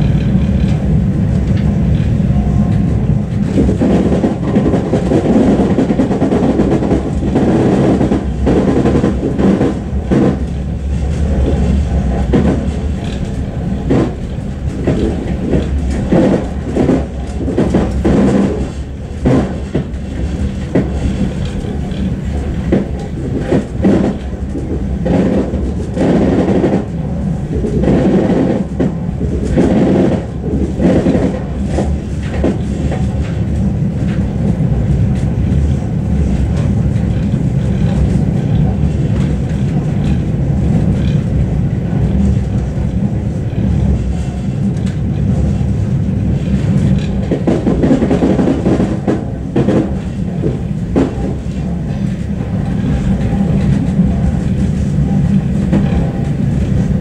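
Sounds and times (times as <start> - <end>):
clatter over the track: 0.0 - 57.0
train wheels rumbling on rails: 0.0 - 57.0.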